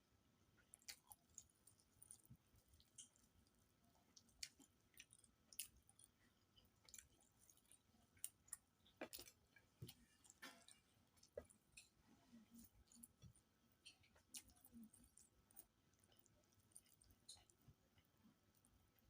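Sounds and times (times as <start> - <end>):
faint chewing: 0.5 - 19.0.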